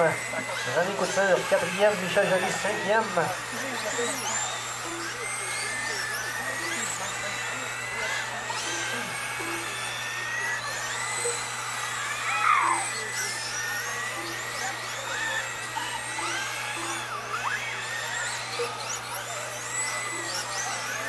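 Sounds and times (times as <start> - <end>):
model car motors whining: 0.0 - 21.0.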